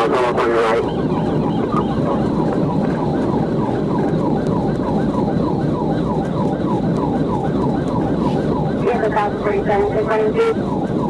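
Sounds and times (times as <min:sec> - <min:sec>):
car road and engine noise: 0:00.0 - 0:11.0
police siren yelping: 0:00.0 - 0:11.0.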